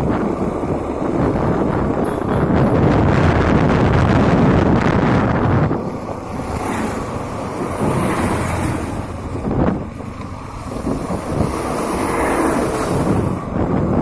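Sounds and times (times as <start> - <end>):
road noise: 0.0 - 14.0
scooter engine: 0.0 - 14.0
wind buffeting microphone: 0.0 - 14.0.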